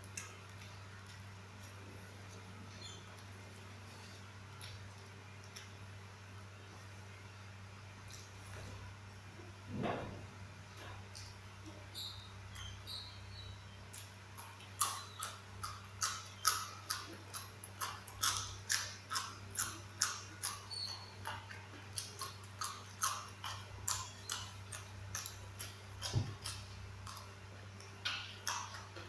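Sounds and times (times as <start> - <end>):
person chewing crunchy beans: 0.0 - 7.0, 12.5 - 29.0.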